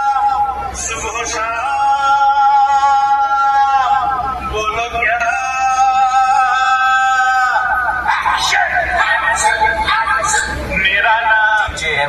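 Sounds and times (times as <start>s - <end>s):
man singing long high notes: 0.0s - 11.8s.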